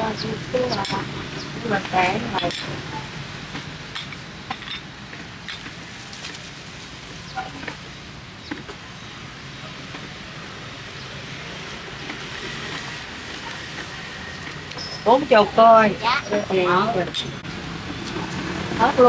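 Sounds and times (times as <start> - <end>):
low hum of traffic: 0.0 - 19.0.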